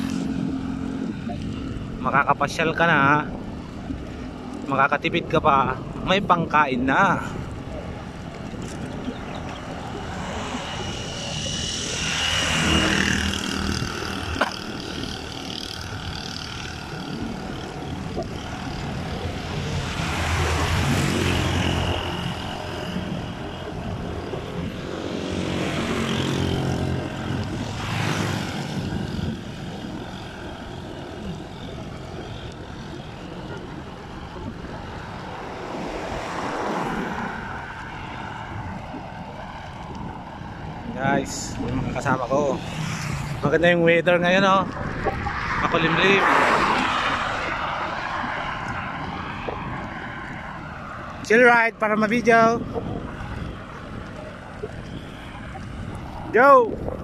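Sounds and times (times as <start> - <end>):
steady background rush: 0.0 - 57.0
vehicles passing on road: 0.0 - 57.0.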